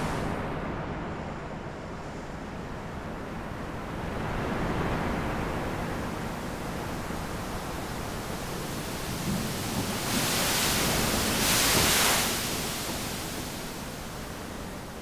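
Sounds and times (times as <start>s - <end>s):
ocean waves washing on beach: 0.0s - 15.0s.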